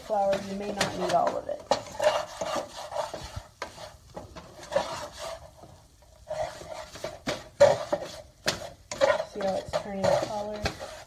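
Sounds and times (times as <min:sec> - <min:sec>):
pan sizzling: 0:00.0 - 0:11.0
spatula scraping a skillet: 0:00.0 - 0:11.0.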